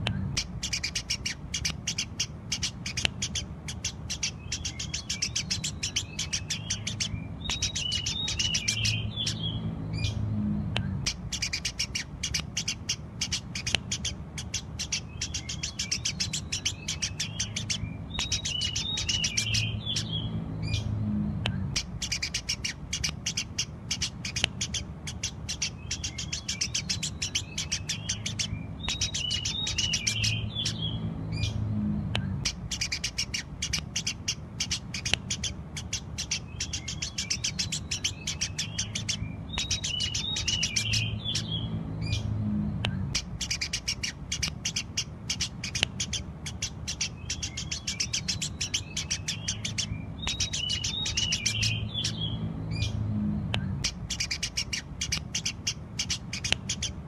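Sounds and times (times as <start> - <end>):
sparrows chirping and twittering: 0.0 - 57.0
steady low hum: 0.0 - 57.0.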